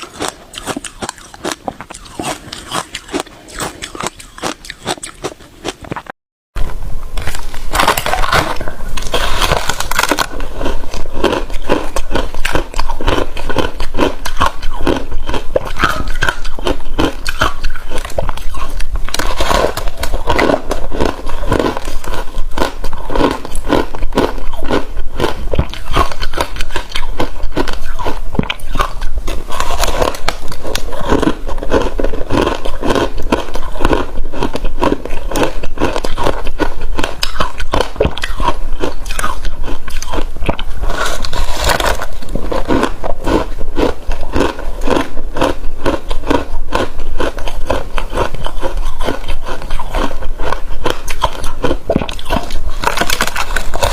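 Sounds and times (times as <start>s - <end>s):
ice being crunched by chewing: 0.0s - 6.1s, 7.2s - 53.9s.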